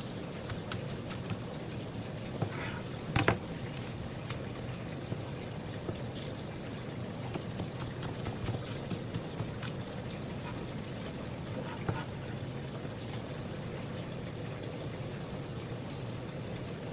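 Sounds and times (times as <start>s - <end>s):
water running: 0.0s - 16.9s.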